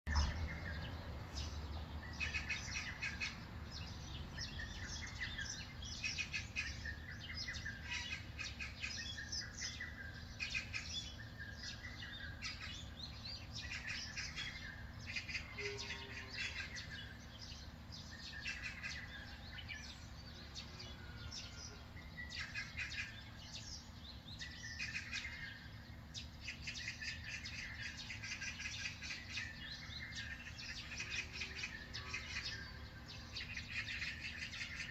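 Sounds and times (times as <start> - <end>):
birds chirping and singing: 0.1 - 34.9.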